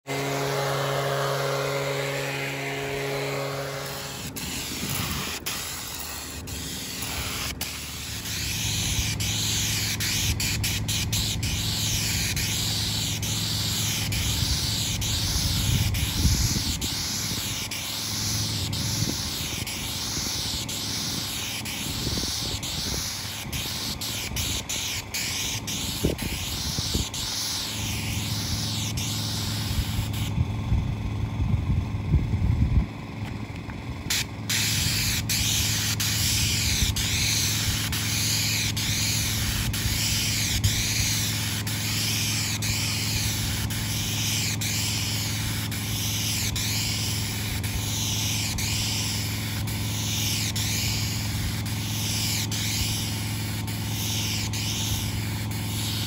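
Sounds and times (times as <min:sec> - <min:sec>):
leaf blower running: 0:00.0 - 0:32.3, 0:33.1 - 0:56.0
engine drone: 0:00.0 - 0:56.0
spray wand hissing: 0:00.1 - 0:30.3, 0:34.1 - 0:56.0.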